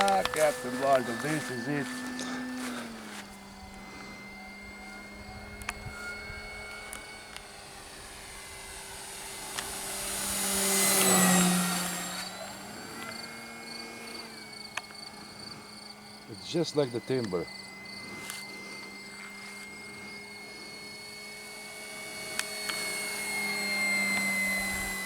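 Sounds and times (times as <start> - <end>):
rc plane motor whine: 0.0 - 25.0.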